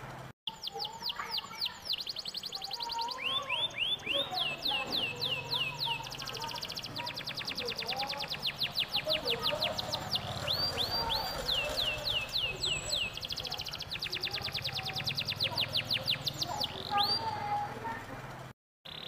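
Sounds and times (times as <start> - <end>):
canary singing: 0.5 - 17.7.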